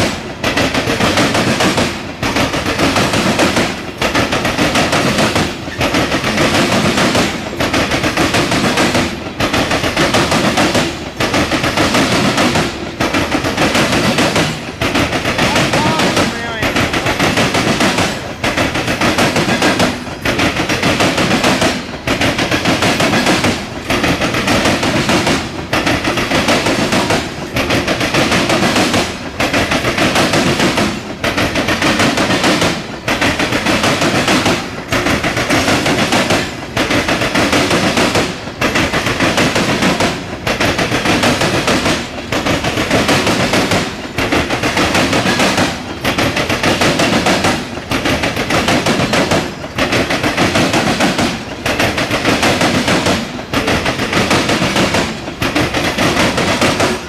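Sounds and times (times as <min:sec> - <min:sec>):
train wheels clacking over rails: 0:00.0 - 0:57.0.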